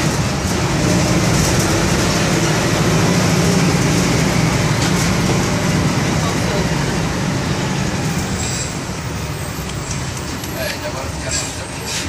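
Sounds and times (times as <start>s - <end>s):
diesel engine droning: 0.0s - 10.5s.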